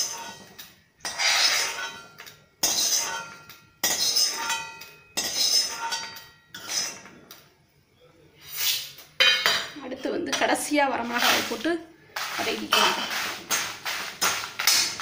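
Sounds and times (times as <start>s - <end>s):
metal spatula scraping iron pan: 0.0s - 7.2s, 8.5s - 15.0s.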